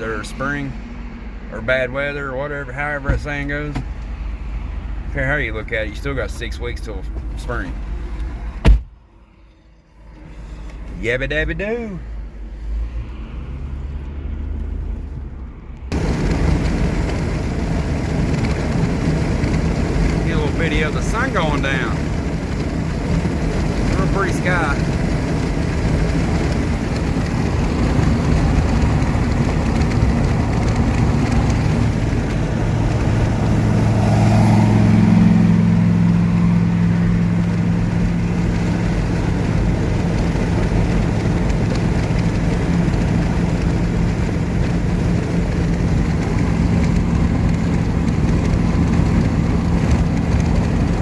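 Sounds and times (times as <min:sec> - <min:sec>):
car engine and road hum: 0:00.0 - 0:51.0.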